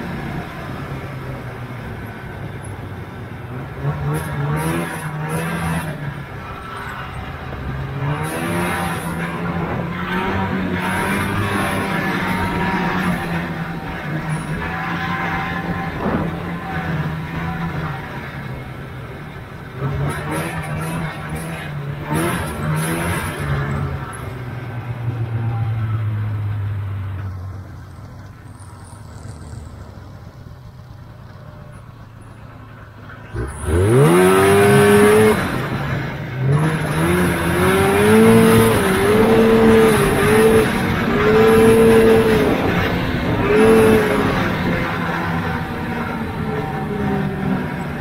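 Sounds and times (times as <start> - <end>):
snowmobile engine revving: 0.0 - 26.4, 32.6 - 48.0.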